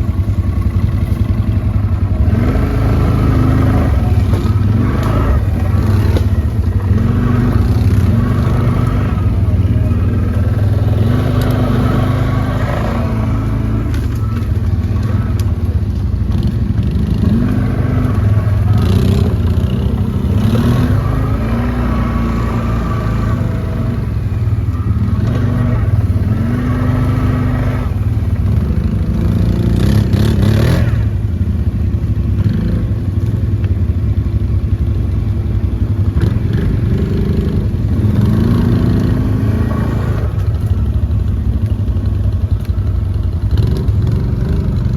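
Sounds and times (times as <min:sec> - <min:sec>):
quad bike engine revving: 0:00.0 - 0:44.9.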